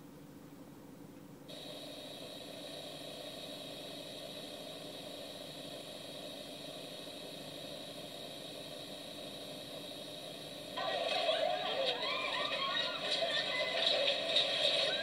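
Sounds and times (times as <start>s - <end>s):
tv static hiss: 1.5s - 15.0s.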